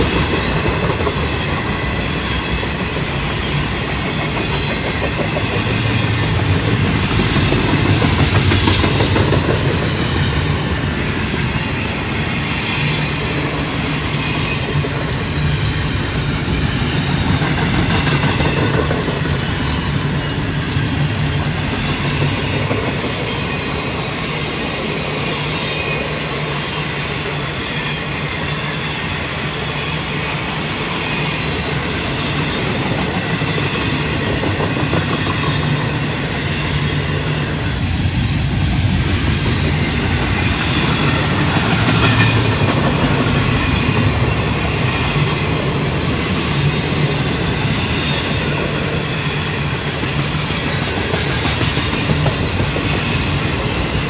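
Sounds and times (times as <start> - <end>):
freight cars rumbling on rails: 0.0 - 54.0.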